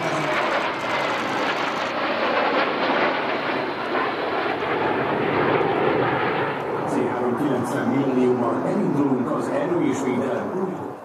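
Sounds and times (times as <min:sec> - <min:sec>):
jet aircraft rushing: 0:00.0 - 0:11.0.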